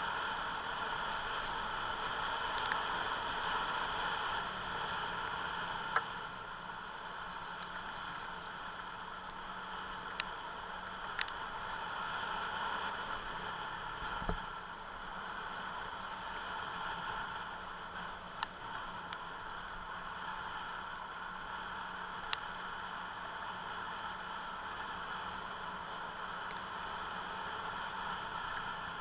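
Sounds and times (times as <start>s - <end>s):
faint low engine hum: 0.0s - 29.0s
rushing wind and road noise: 0.0s - 29.0s.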